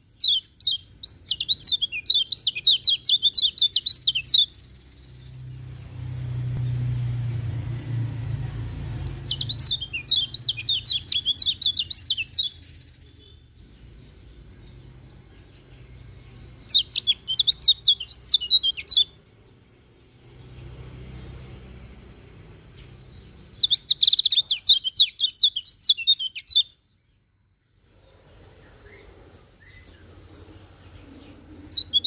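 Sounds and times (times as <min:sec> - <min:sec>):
bird chirping rapidly: 0:00.0 - 0:06.9, 0:08.8 - 0:27.0, 0:30.8 - 0:32.0.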